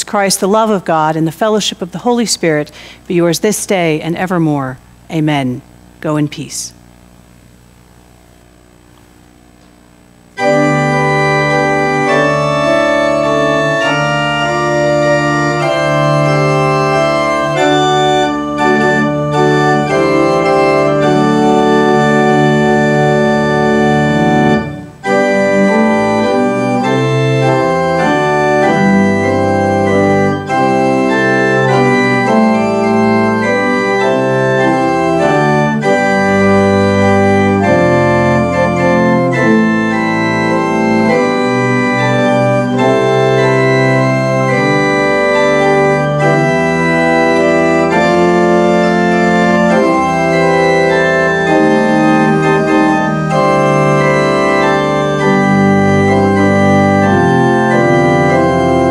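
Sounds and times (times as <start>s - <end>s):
church organ playing sustained chords: 10.2s - 58.9s.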